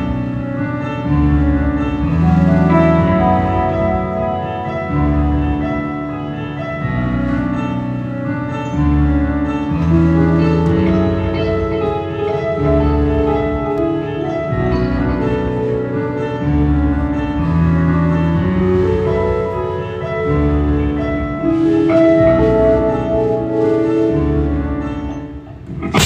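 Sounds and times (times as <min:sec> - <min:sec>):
low bass line: 0:00.0 - 0:08.2, 0:08.8 - 0:26.0
sustained layered chords: 0:00.0 - 0:26.0.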